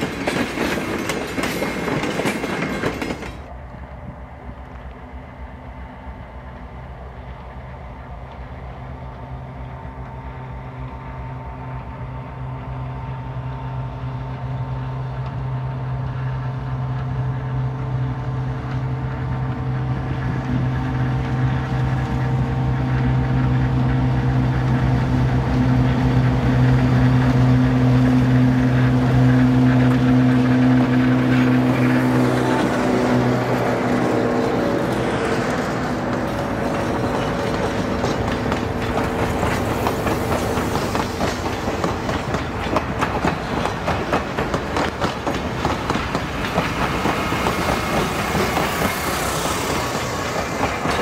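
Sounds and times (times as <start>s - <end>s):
diesel locomotive engine running: 0.0s - 51.0s.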